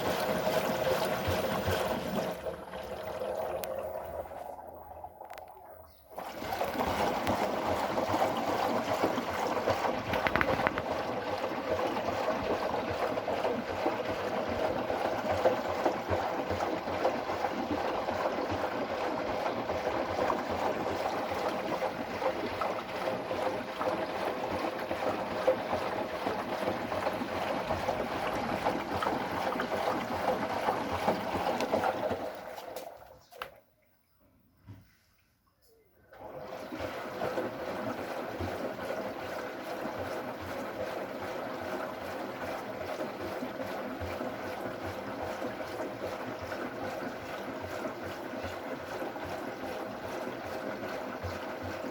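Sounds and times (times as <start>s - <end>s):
washing machine sloshing: 0.0s - 33.6s, 36.1s - 51.9s.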